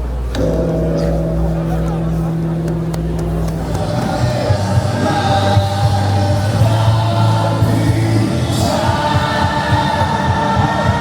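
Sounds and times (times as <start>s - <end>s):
choir singing held chords: 0.4s - 11.0s.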